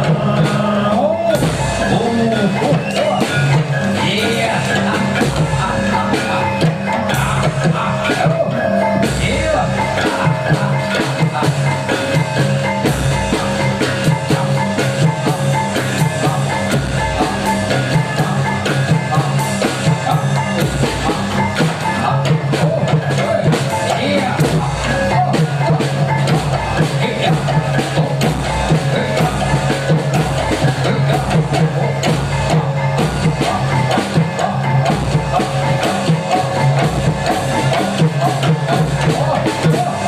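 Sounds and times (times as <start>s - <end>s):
live drum and percussion music: 0.0s - 40.0s.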